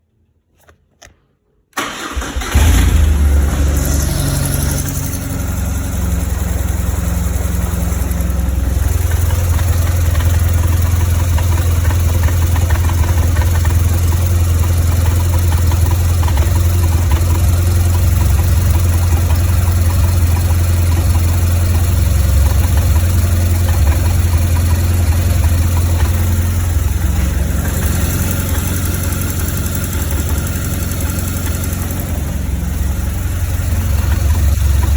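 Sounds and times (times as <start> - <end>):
motorcycle engine starting and idling: 1.8 - 34.9.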